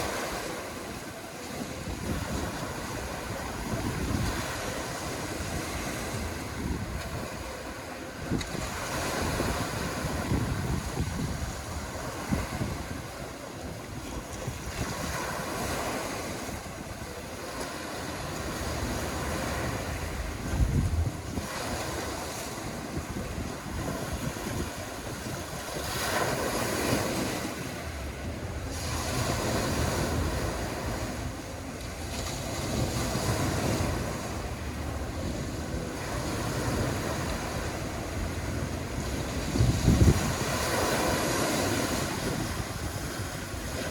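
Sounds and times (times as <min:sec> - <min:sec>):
small waves washing on shore: 0:00.0 - 0:43.9
wind rumbling on microphone: 0:00.0 - 0:43.9.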